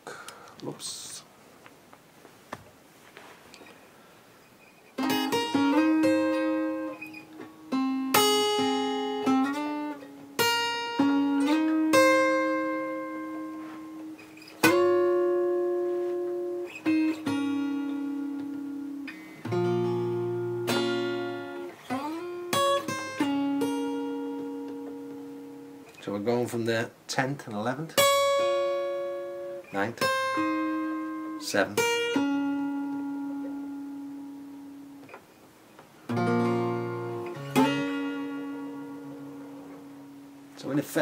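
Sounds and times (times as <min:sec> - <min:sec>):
fingerpicked acoustic guitar: 0:03.4 - 0:26.9, 0:27.5 - 0:41.0.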